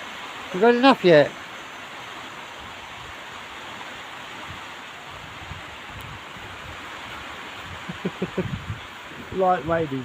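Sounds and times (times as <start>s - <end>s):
hiss of water and rain: 0.0s - 10.0s.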